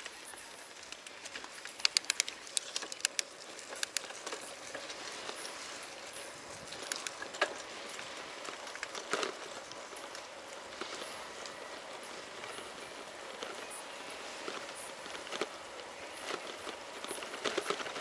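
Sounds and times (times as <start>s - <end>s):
raindrops ticking near microphone: 0.0s - 18.0s
steady hiss of rain: 0.0s - 18.0s.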